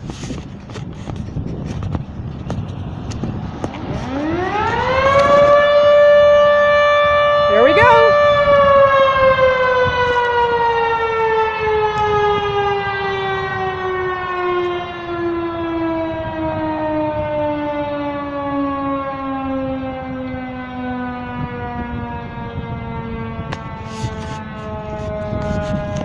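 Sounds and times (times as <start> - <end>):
warning siren winding down: 2.7 - 26.0.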